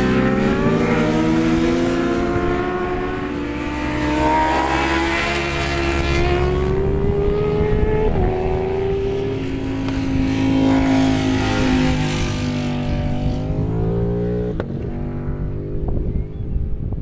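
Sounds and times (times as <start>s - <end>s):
motorcycle passing at speed: 0.0s - 17.0s
wind rumble on microphone: 0.0s - 17.0s.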